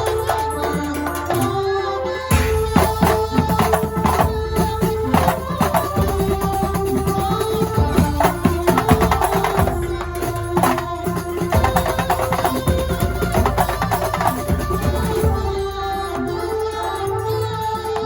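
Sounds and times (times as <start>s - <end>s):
fast hand drums: 0.0s - 16.7s
held melody line: 0.0s - 18.0s.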